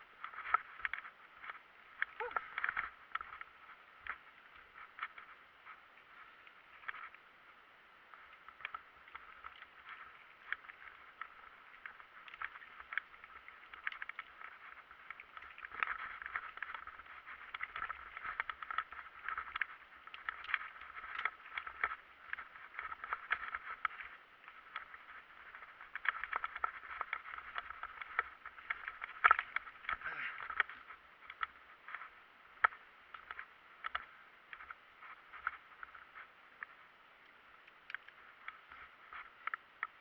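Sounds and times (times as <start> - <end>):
bicycle rolling over rough ground: 0.0 - 40.0.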